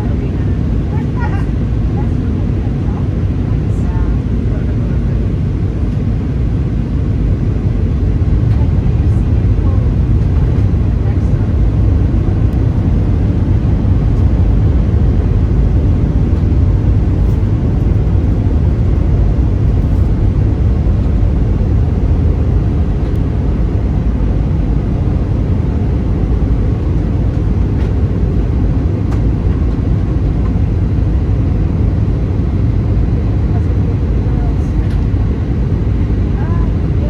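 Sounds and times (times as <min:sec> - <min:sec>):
airliner cabin engine rumble: 0:00.0 - 0:37.0.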